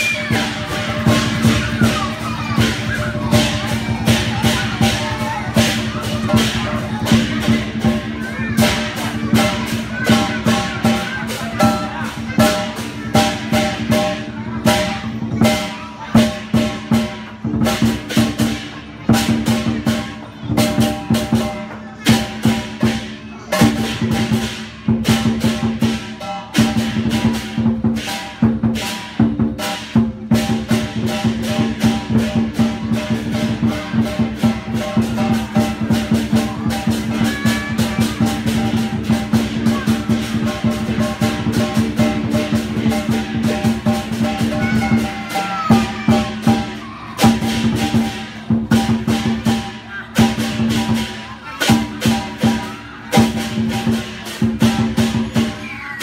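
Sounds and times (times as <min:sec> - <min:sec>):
cymbals clashing: 0:00.0 - 0:56.0
drum beating: 0:00.0 - 0:56.0.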